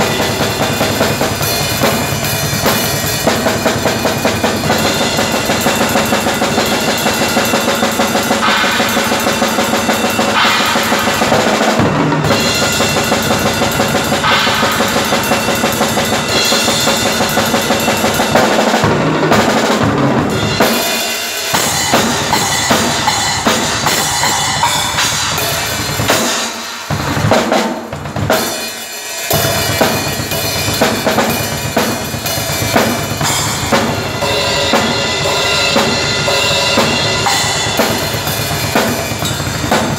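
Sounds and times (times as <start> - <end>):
drum kit played fast: 0.0 - 39.9.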